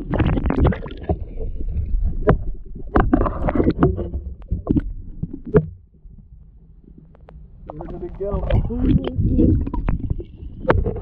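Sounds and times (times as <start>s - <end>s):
underwater rumble and gurgling: 0.0s - 11.0s.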